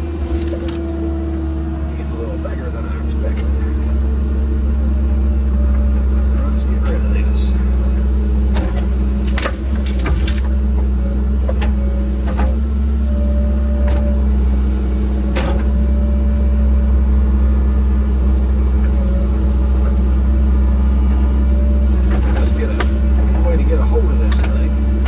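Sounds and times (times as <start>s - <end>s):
engine low drone: 0.0s - 25.0s.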